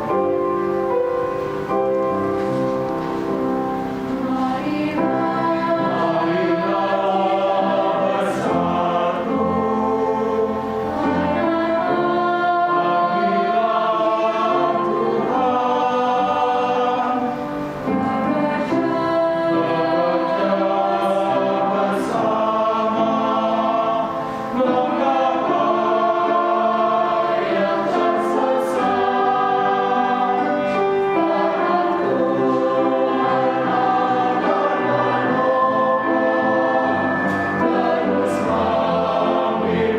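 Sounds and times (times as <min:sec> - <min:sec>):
choir singing chords: 0:00.0 - 0:39.9.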